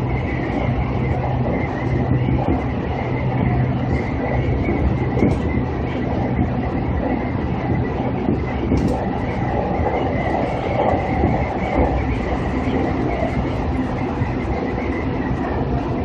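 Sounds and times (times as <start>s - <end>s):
faint high whine: 0.0s - 16.0s
train wheels rumbling on rails: 0.0s - 16.0s.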